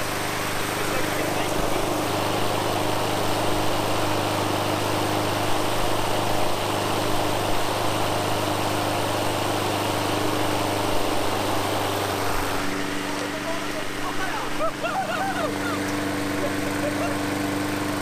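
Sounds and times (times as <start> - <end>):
lawn mower running: 0.0 - 18.0.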